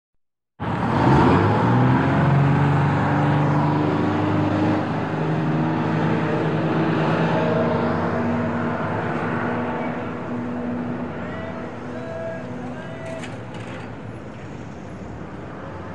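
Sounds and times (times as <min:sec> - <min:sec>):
bus engine running: 0:00.6 - 0:15.9.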